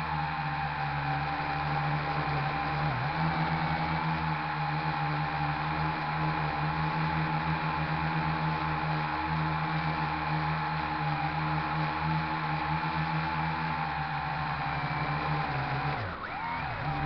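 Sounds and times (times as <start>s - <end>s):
electric propeller droning whine: 0.0s - 17.0s.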